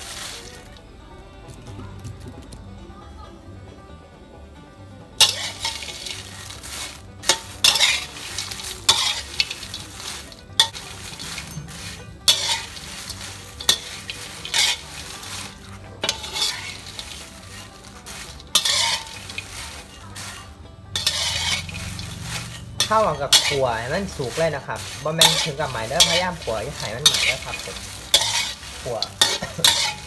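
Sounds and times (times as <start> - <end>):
metal spatula scraping wok: 0.0 - 1.0, 5.2 - 30.0
dry chillies rustling in wok: 0.0 - 2.6, 5.2 - 30.0.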